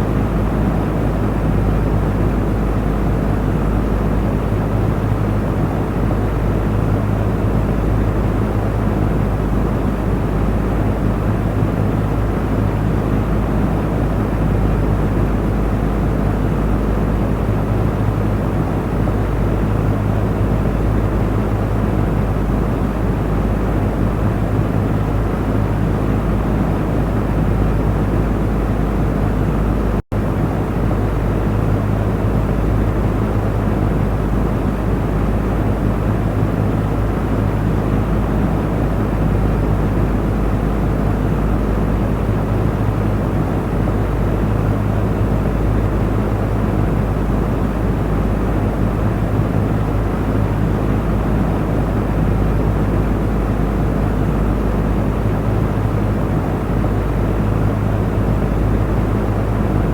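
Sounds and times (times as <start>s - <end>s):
electric fan whirring: 0.0s - 59.9s.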